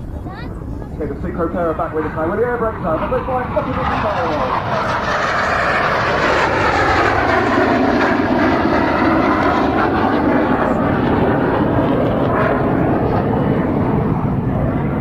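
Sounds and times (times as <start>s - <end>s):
jet roar overhead: 0.0s - 15.0s.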